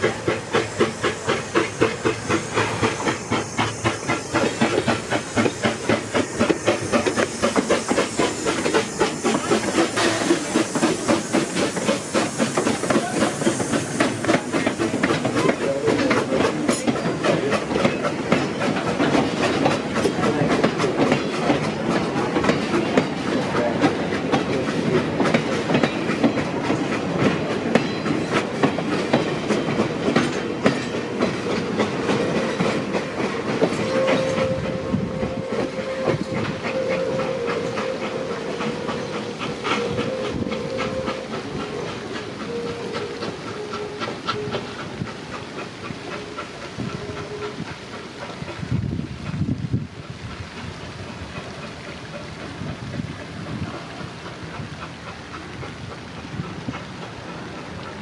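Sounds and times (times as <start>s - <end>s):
steady steam hiss: 0.0s - 58.0s
steam locomotive exhaust beats: 0.0s - 58.0s
train wheels on rails: 0.0s - 58.0s.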